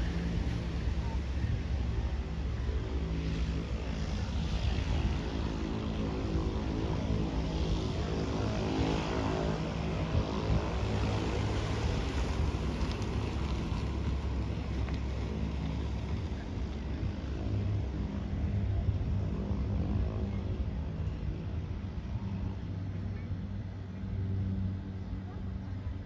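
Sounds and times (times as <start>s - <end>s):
turboprop engine droning: 0.0s - 26.0s.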